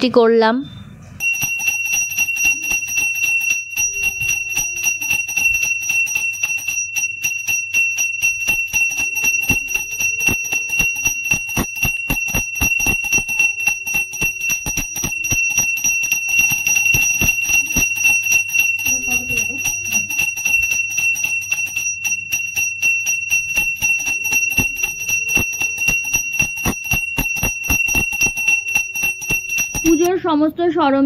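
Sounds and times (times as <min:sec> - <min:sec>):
brass hand bell ringing: 0:01.2 - 0:30.2.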